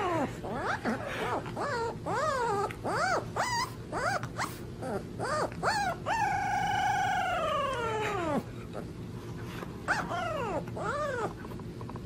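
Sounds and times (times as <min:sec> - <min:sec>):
puppy howling: 0:00.0 - 0:08.5, 0:09.9 - 0:11.4.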